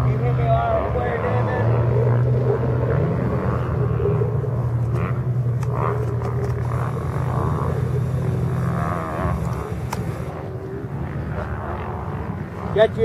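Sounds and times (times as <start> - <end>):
truck engine drone: 0.0 - 13.0.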